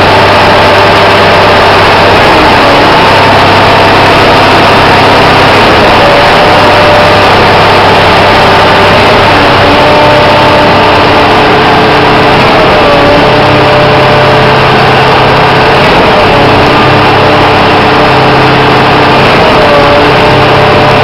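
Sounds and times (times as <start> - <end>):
concrete pump engine running: 0.0 - 21.0.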